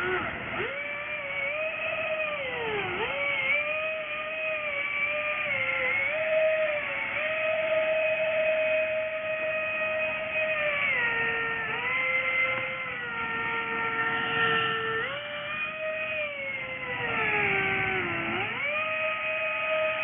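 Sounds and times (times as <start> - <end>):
small boat motor whining: 0.0 - 20.0.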